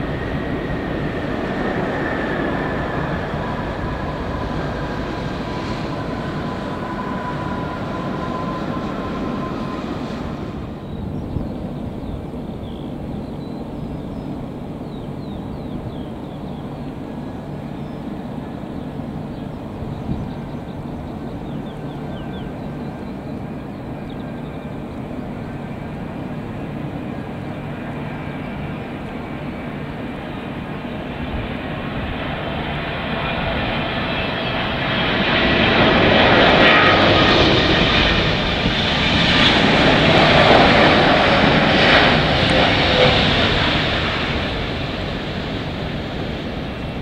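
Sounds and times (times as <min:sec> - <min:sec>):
jet airliner rumble and whine: 0:00.0 - 0:47.0.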